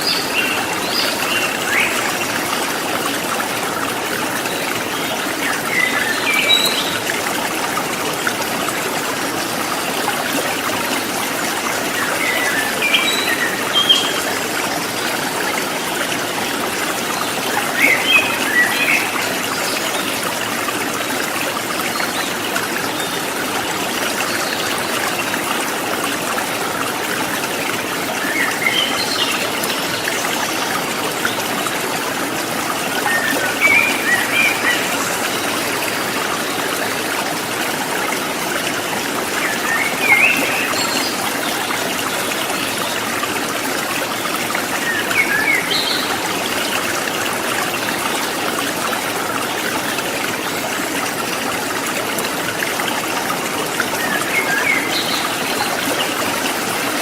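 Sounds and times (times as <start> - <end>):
river water running over rocks: 0.0 - 57.0.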